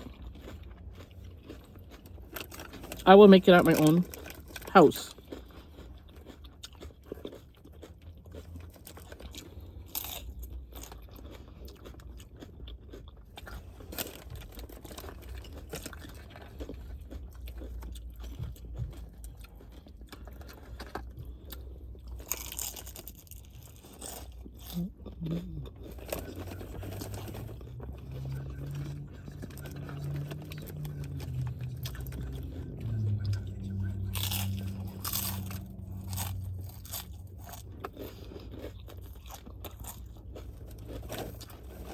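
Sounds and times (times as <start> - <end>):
chewing and crunching chips: 0.0 - 41.9.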